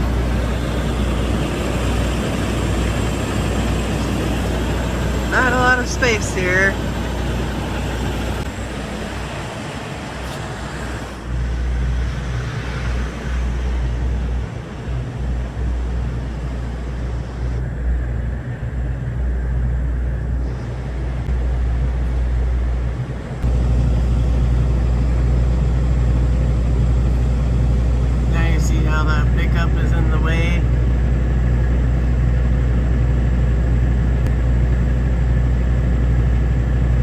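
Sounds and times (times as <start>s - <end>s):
diesel truck engine idling: 0.0s - 37.0s.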